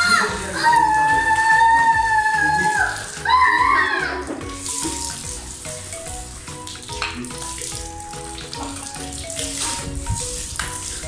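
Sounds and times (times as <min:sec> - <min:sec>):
background music with steady beat: 0:00.0 - 0:11.0
hose water spraying: 0:00.0 - 0:11.0.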